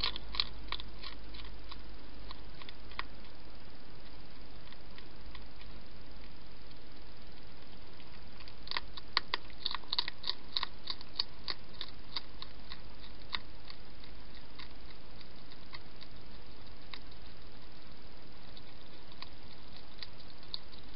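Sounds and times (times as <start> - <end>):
hedgehog crunching food: 0.0 - 20.9
steady hiss: 0.0 - 20.9.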